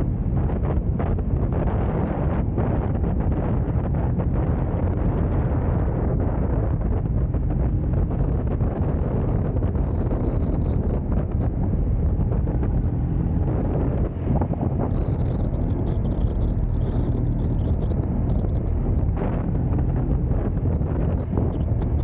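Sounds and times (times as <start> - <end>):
motorcycle engine humming: 0.0 - 22.0
wind buffeting microphone: 0.0 - 22.0.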